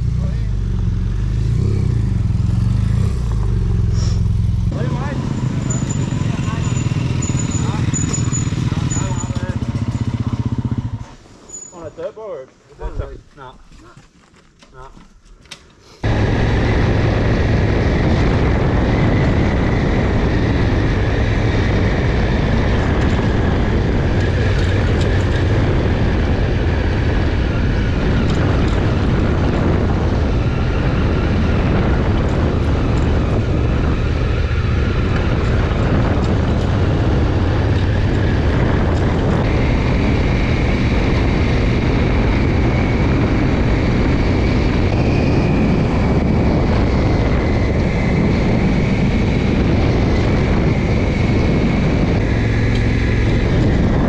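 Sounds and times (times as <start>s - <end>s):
wind noise on microphone: 0.0s - 11.0s, 16.0s - 54.0s
motorcycle engine running: 0.0s - 11.3s, 16.0s - 54.0s.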